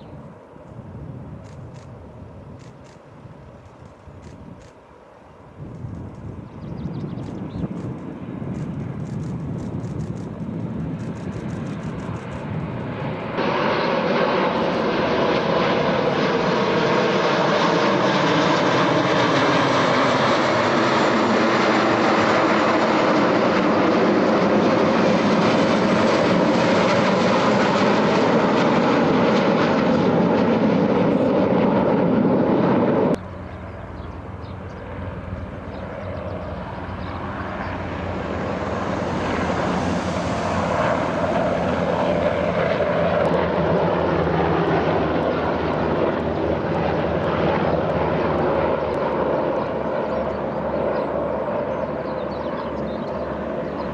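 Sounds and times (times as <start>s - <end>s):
military aircraft flying overhead: 0.0s - 53.9s.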